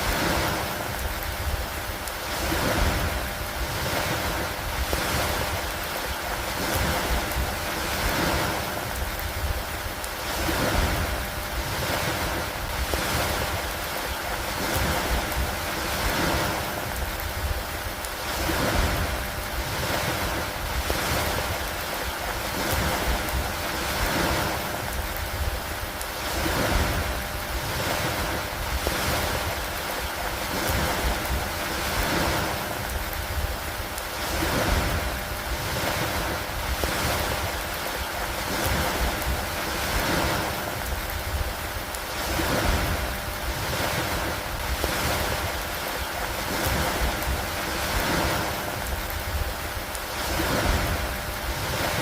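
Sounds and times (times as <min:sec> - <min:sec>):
steady rain: 0:00.0 - 0:52.0
water washing against a dock: 0:00.0 - 0:52.0
wind: 0:00.0 - 0:52.0.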